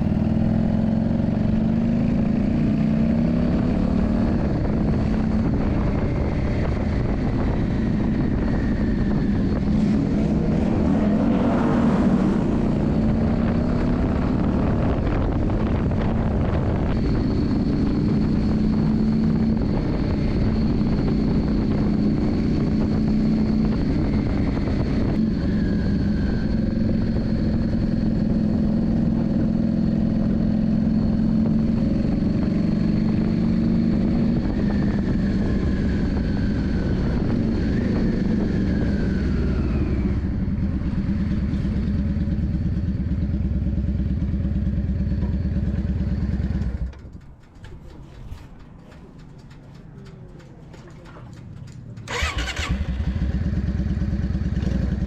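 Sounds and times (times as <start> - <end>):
motorcycle engine running: 0.0 - 11.1, 12.2 - 55.0.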